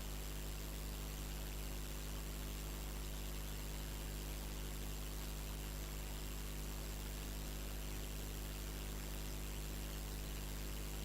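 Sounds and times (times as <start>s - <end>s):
low electrical hum: 0.0s - 11.0s
steady hiss: 0.0s - 11.0s.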